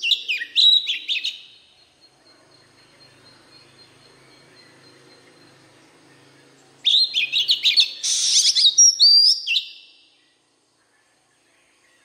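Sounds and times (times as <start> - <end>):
bird singing whistled trills: 0.0 - 12.0.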